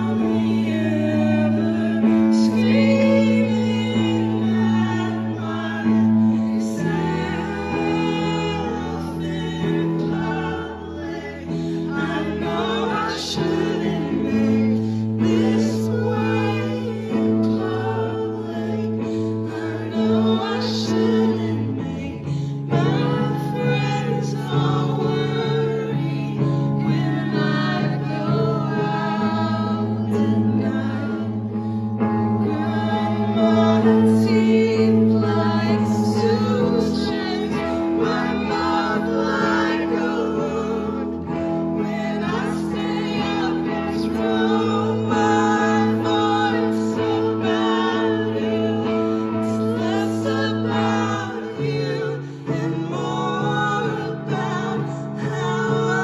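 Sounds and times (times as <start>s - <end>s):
electric guitar: 0.0s - 56.0s
women singing: 0.0s - 56.0s.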